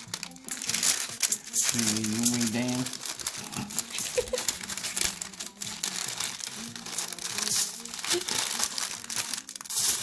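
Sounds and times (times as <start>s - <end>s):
wrapping crinkling: 0.0s - 10.0s.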